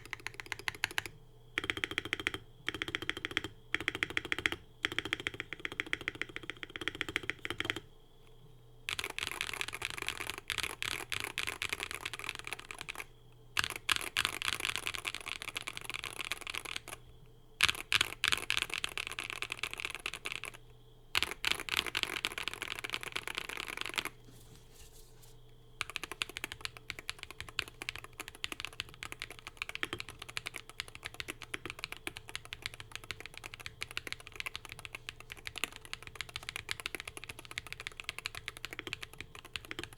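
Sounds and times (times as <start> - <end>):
typing on a keyboard: 0.0 - 7.9, 8.9 - 17.0, 17.6 - 24.2, 25.8 - 39.9.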